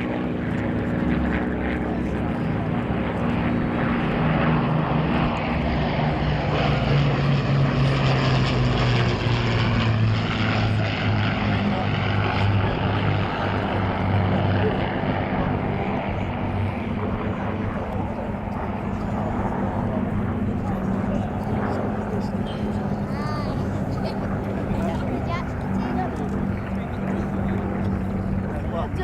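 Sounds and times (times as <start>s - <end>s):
propeller plane engines droning: 0.0s - 29.0s.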